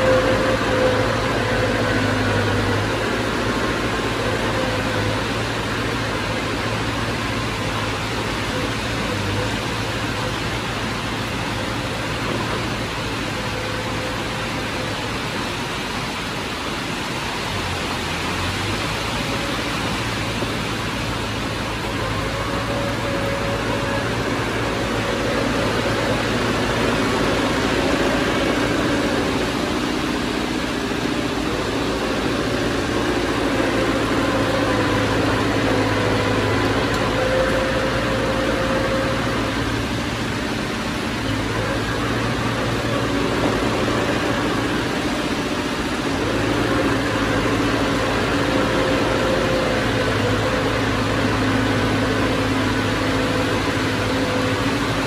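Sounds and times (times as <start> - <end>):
heavy machinery diesel engine running: 0.0 - 55.0.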